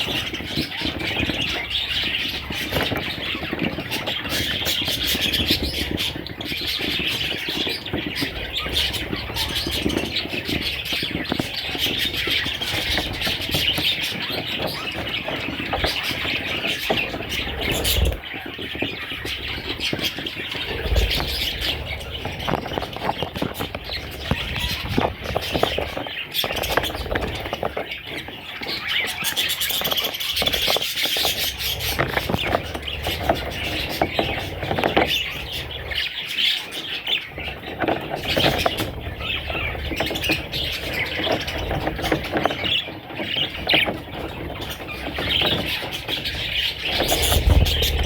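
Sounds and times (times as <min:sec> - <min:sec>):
budgerigar chicks chirping: 0:00.0 - 0:48.0.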